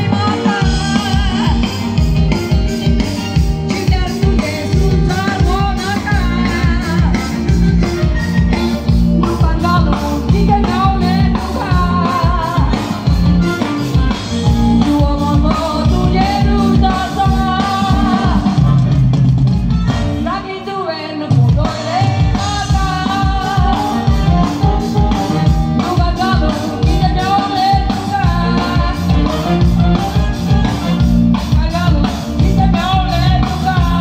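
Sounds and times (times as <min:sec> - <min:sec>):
person singing: 0:00.0 - 0:19.2, 0:20.2 - 0:34.0
congas: 0:00.0 - 0:20.4, 0:21.4 - 0:34.0
guitar: 0:00.0 - 0:34.0
keyboard: 0:00.0 - 0:34.0.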